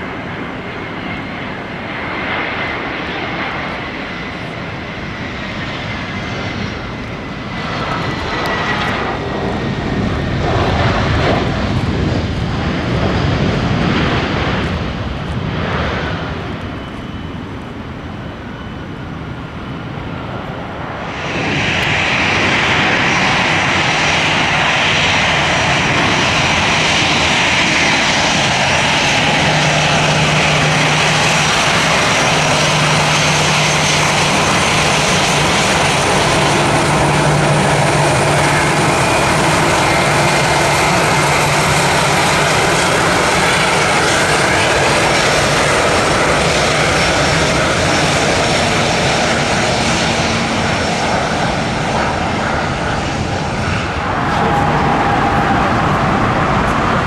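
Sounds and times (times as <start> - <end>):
jet engine rush: 0.0 - 57.0
jet engine whine: 0.0 - 57.0.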